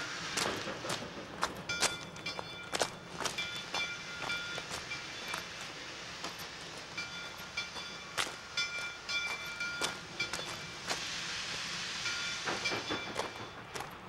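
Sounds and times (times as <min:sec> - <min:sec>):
steam locomotive rushing: 0:00.0 - 0:14.0.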